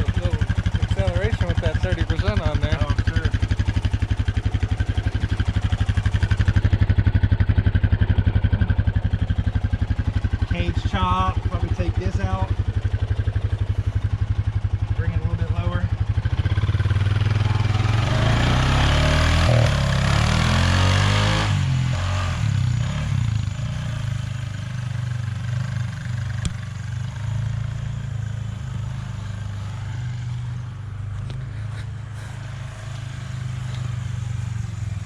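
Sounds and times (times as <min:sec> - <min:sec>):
utility vehicle engine revving: 0:00.0 - 0:35.0.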